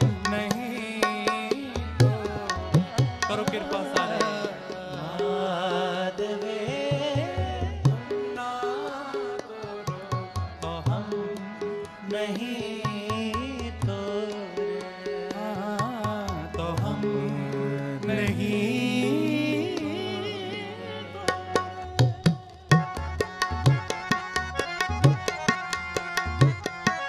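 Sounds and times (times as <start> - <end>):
tabla drumming: 0.0 - 5.9, 6.6 - 27.0
person singing: 0.0 - 22.5
harmonium sustained notes: 0.0 - 27.0.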